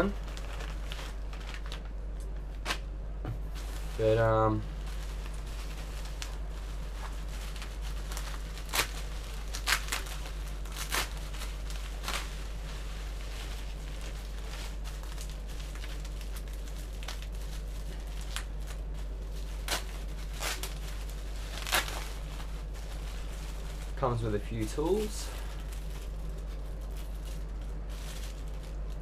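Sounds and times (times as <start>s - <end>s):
bubble wrap crackles: 0.0s - 29.0s
bubble wrap crinkling: 0.0s - 29.0s.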